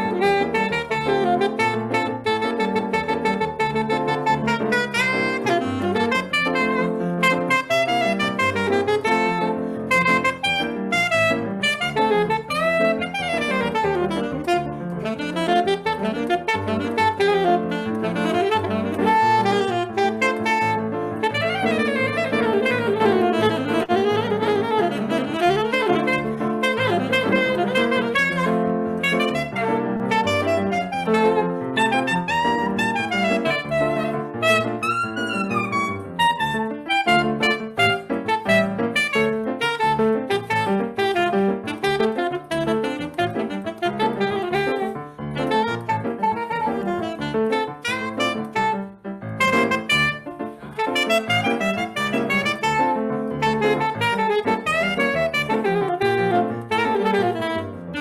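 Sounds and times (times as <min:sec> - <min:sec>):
saxophone playing fast runs: 0:00.0 - 0:58.0.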